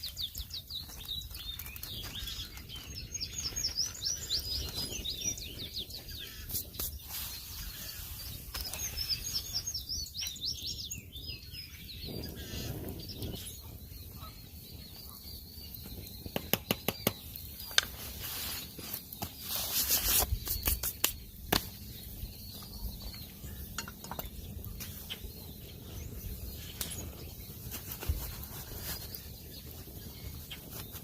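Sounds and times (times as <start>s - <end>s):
songbird chirping: 0.0s - 31.0s.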